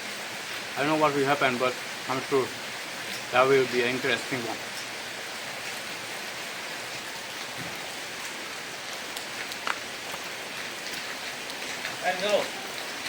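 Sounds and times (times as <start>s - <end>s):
heavy rain falling: 0.0s - 13.0s
raindrops ticking on surfaces: 0.0s - 13.0s.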